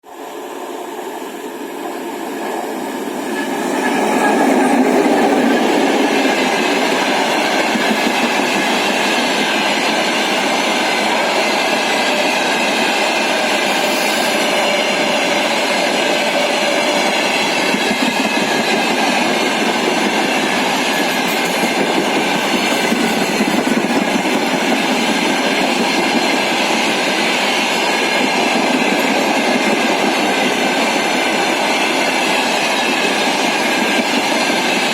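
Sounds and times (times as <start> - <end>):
freight train passing: 0.0 - 34.9.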